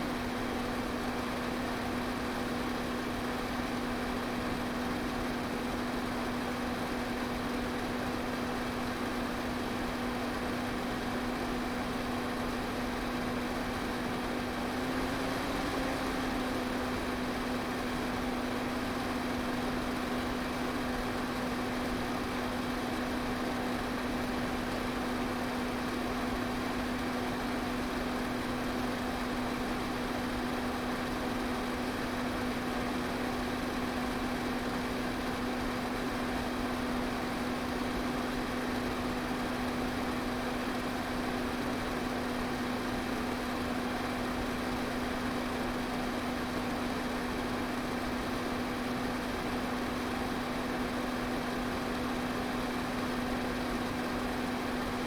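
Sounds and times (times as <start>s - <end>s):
electric fan running: 0.0s - 55.0s.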